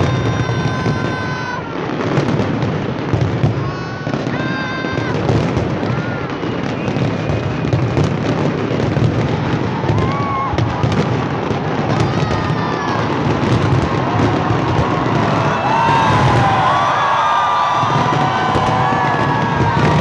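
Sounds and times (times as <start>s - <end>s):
fireworks booming: 0.0s - 20.0s
fireworks crackling: 0.0s - 20.0s.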